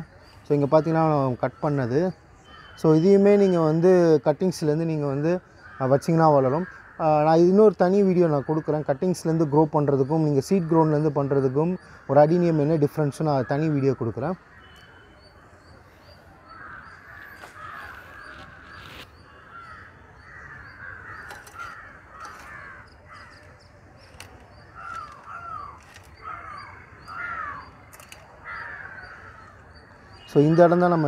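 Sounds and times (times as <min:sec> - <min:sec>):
crows cawing: 0:00.6 - 0:03.0, 0:05.0 - 0:09.5, 0:10.5 - 0:31.0.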